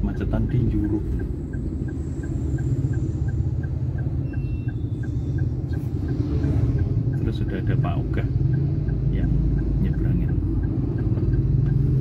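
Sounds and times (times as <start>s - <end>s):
car engine idling: 0.0s - 12.0s
turn signal ticking: 0.0s - 12.0s.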